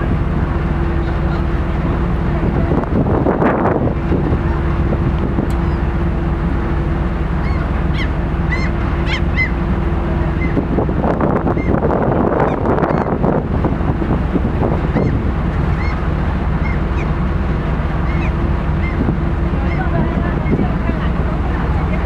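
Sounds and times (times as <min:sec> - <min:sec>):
boat engine hum: 0:00.0 - 0:22.0
wind buffeting microphone: 0:00.0 - 0:22.0
gulls calling: 0:00.1 - 0:22.0.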